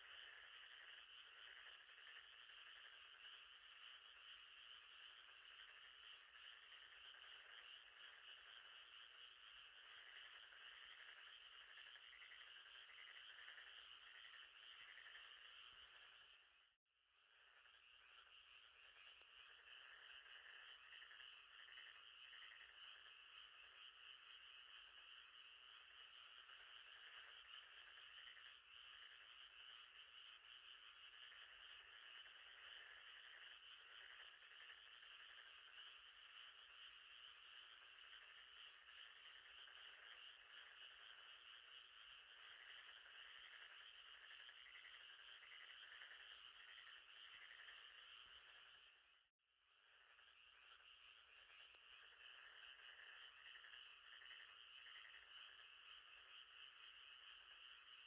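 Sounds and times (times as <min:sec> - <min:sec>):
frogs trilling: 0:00.0 - 0:58.0.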